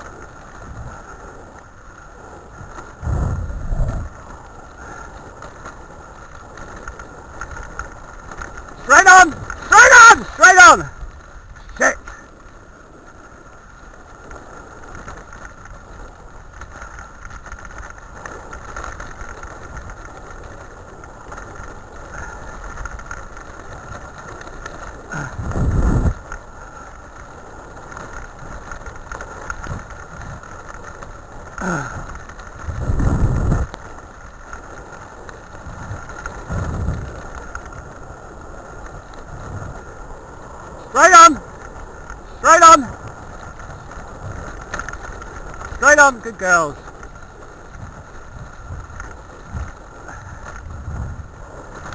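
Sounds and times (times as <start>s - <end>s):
wheels rolling over gravel: 0.0s - 51.9s.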